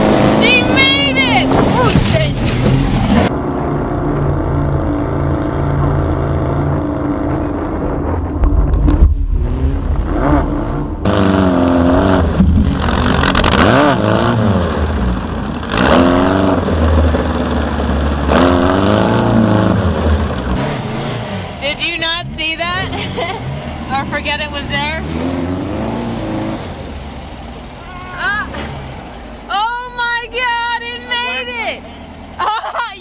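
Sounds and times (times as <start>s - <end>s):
car engine revving: 0.0s - 32.6s.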